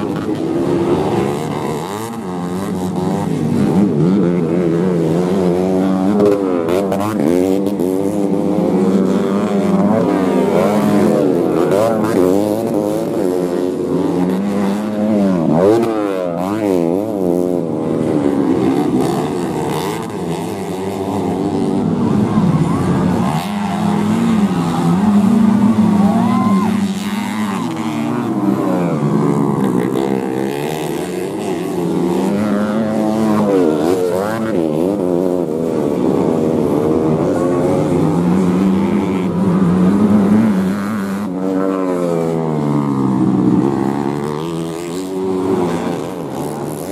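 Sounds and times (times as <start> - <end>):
motorcycles revving: 0.0 - 46.9.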